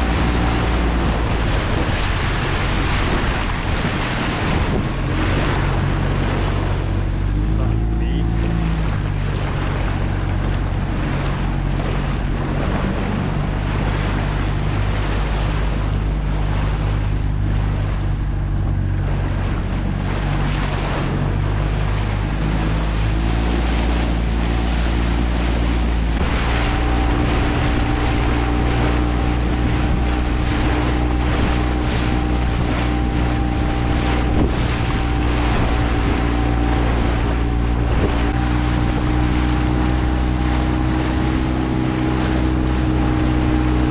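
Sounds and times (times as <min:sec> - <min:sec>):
motorboat engine running: 0:00.0 - 0:43.9
water splashing at hull: 0:00.0 - 0:43.9
wind buffeting microphone: 0:00.0 - 0:43.9.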